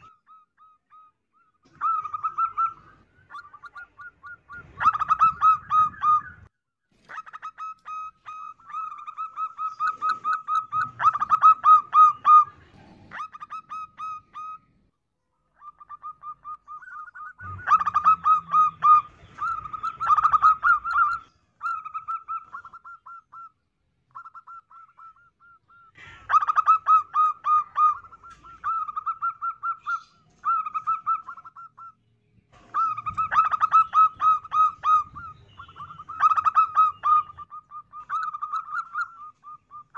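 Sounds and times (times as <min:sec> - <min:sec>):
dove cooing: 0:00.0 - 0:06.5, 0:07.1 - 0:14.7, 0:15.6 - 0:23.5, 0:24.2 - 0:31.9, 0:32.6 - 0:39.9.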